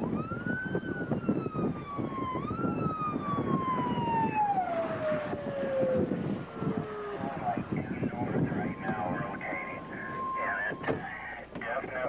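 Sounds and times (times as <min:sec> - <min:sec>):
siren wailing: 0:00.0 - 0:11.4
wind rumbling on microphone: 0:00.0 - 0:12.0.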